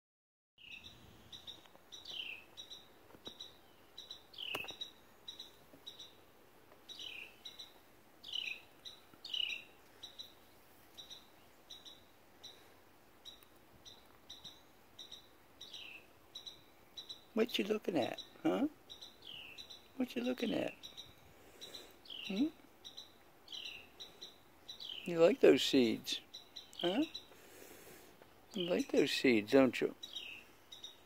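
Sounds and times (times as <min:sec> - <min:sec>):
birds chirping: 0:00.6 - 0:31.0.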